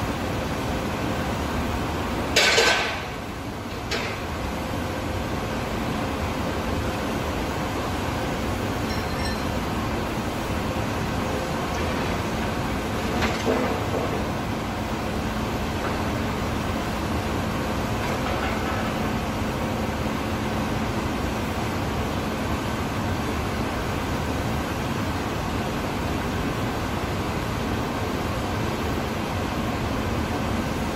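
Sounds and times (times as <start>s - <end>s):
faint constant hum: 0.0s - 30.9s
workshop machinery rumbling drone: 0.0s - 30.9s.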